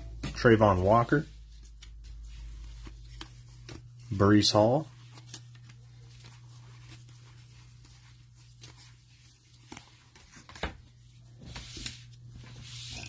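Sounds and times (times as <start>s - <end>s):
low electrical hum: 0.0s - 13.0s
trading cards being handled: 0.4s - 13.0s.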